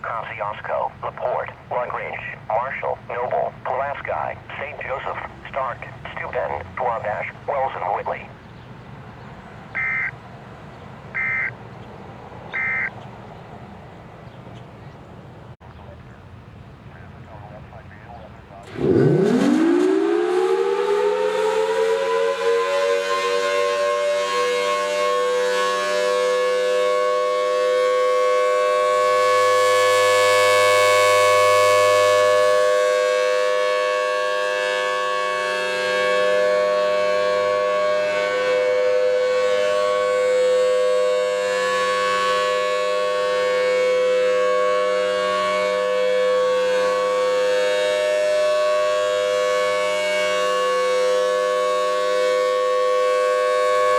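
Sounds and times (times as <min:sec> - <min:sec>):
dual-tone warning siren: 0:00.0 - 0:08.4, 0:09.5 - 0:13.0, 0:17.0 - 0:53.9.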